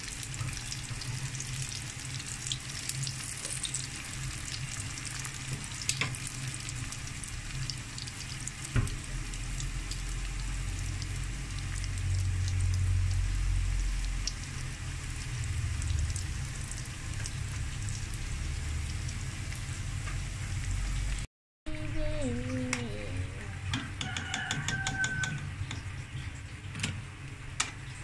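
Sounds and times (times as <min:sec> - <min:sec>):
food deep-frying in hot oil: 0:00.0 - 0:21.3, 0:22.5 - 0:28.0.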